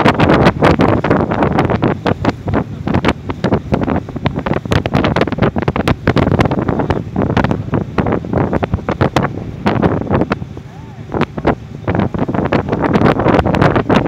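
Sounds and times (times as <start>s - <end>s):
low boat rumble: 0.0s - 14.0s
wind buffeting microphone: 0.0s - 14.0s.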